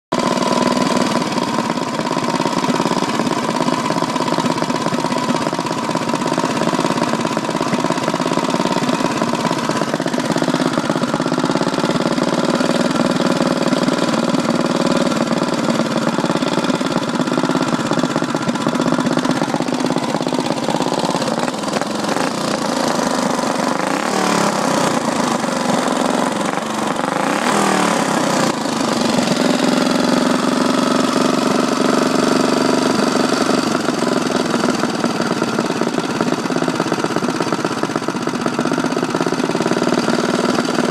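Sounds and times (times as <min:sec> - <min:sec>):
go-kart engine running: 0:00.1 - 0:40.9.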